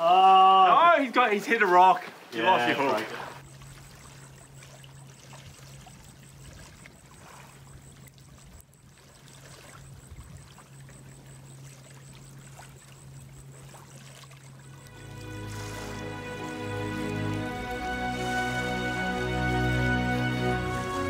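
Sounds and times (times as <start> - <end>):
low steady hum: 2.4 - 21.0.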